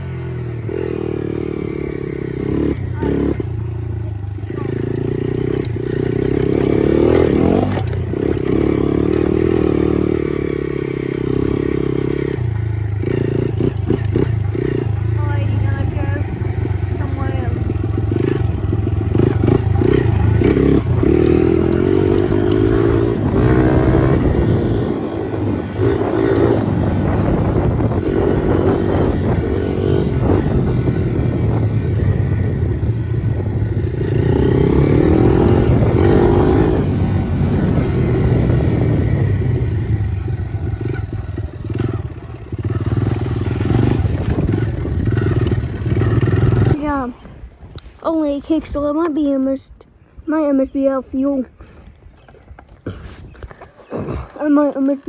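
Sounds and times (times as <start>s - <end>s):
dirt bike engine revving: 0.0s - 47.2s.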